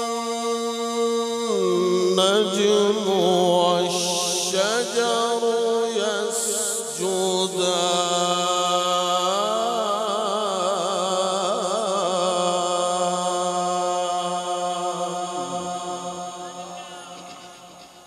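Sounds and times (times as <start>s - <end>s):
man reciting in melodic style: 0.0s - 18.0s.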